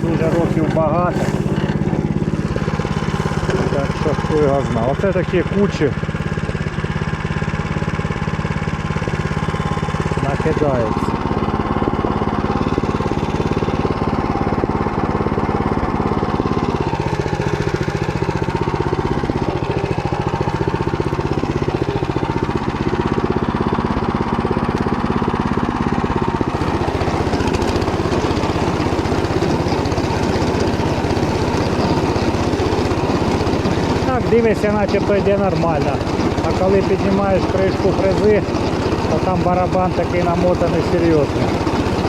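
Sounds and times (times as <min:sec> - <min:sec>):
rotary tiller churning soil: 0:00.0 - 0:42.0
small tractor engine running: 0:00.0 - 0:42.0.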